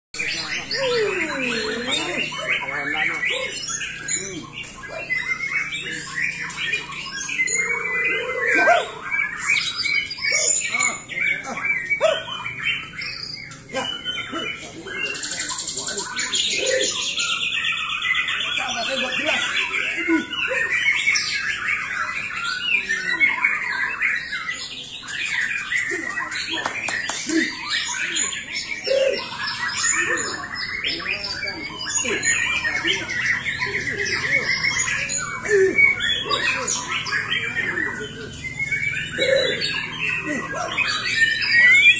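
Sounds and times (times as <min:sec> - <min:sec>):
songbirds singing: 0:00.1 - 0:41.9.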